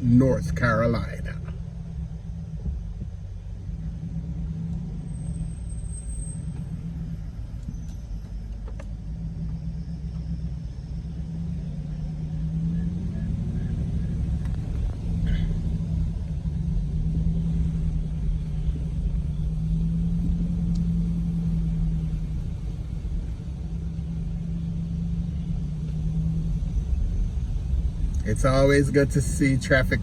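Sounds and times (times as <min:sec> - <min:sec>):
road rumble: 0:00.0 - 0:30.0
vehicle engine drone: 0:00.0 - 0:30.0.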